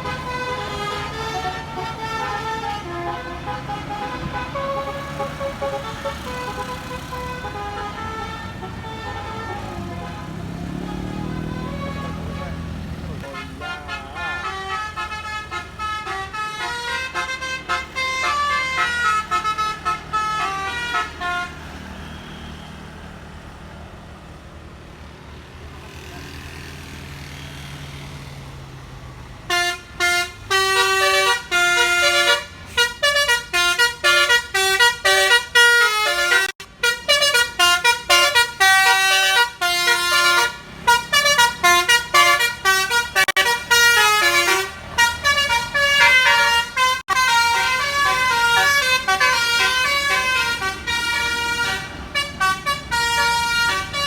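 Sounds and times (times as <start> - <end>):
multi-tone air horn melodies: 0.0 - 21.7, 29.5 - 54.0.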